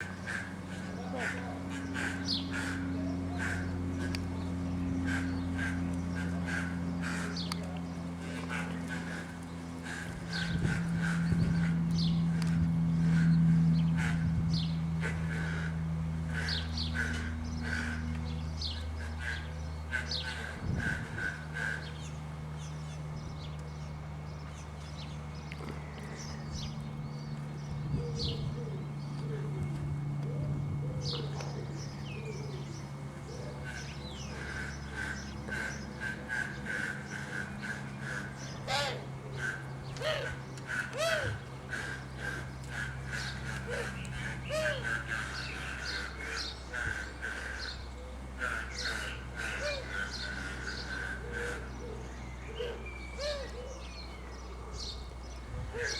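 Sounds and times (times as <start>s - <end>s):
birds calling: 0.0s - 55.9s
steady low hum: 0.0s - 55.9s.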